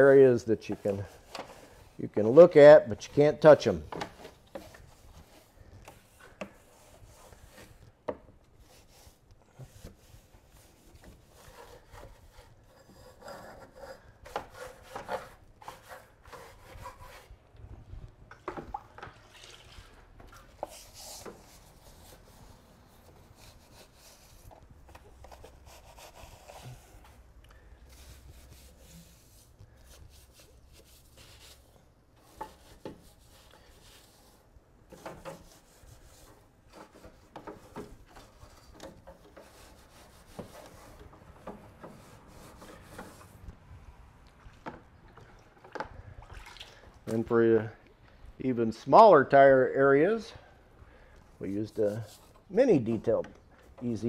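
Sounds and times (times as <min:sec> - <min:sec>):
soft brush scrubbing: 0:00.0 - 0:17.4, 0:19.1 - 0:44.2, 0:51.4 - 0:53.2.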